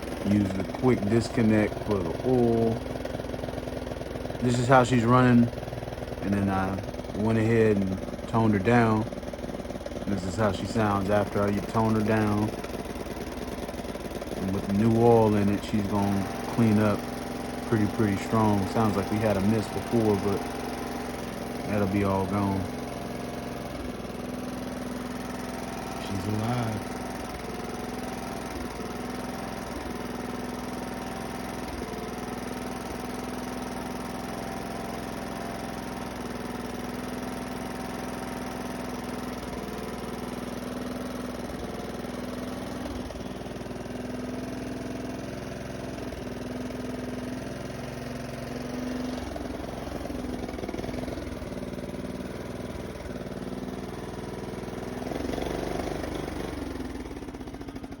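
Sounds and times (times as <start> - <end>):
mower engine running: 0.0 - 58.0.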